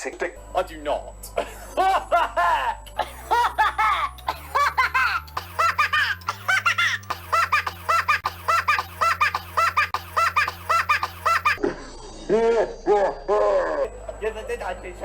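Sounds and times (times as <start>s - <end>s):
looped laugh-like voice snippet: 1.4s - 14.5s.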